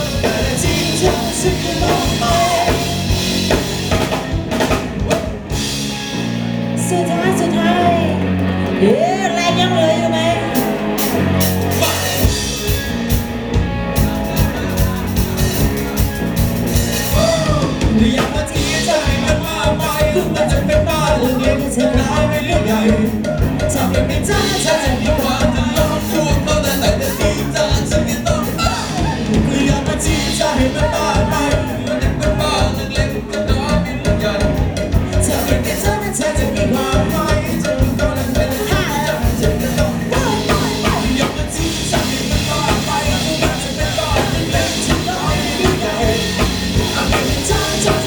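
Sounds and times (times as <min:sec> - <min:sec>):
person singing: 0:00.0 - 0:04.2, 0:06.8 - 0:12.6, 0:16.9 - 0:48.0
pop-rock band playing: 0:00.0 - 0:48.0.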